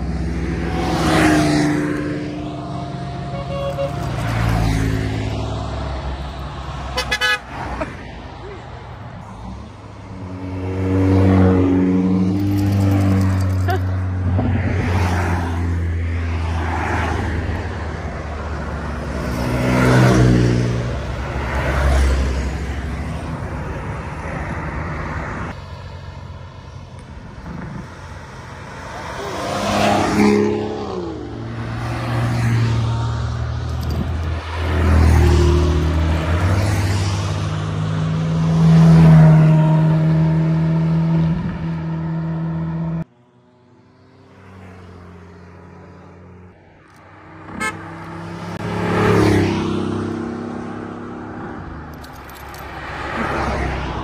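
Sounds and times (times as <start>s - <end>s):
sports cars driving past: 0.0s - 54.0s.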